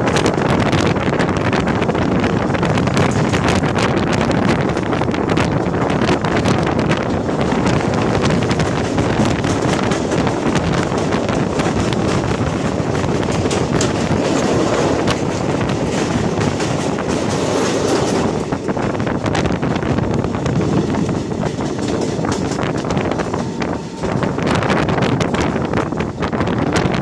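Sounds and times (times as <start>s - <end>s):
train rolling noise: 0.0s - 27.0s
wheels clattering over rails: 0.0s - 27.0s.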